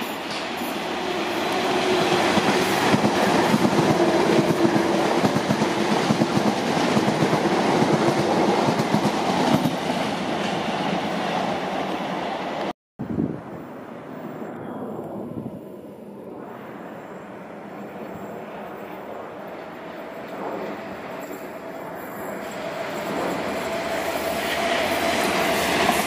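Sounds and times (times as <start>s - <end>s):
train hum: 0.0s - 26.0s.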